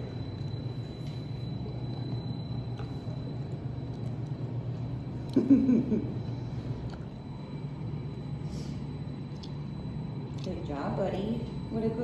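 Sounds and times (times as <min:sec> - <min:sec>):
treadmill humming: 0:00.0 - 0:12.0.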